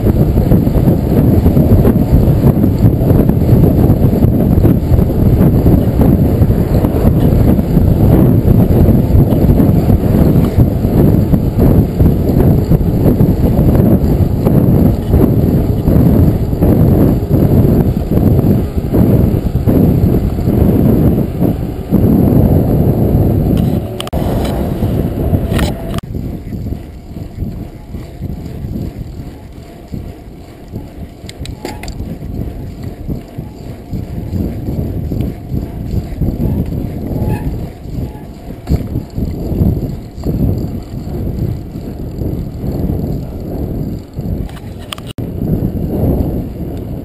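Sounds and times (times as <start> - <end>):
bike clicks and rattles: 0.0 - 47.0
wind buffeting microphone: 0.0 - 47.0.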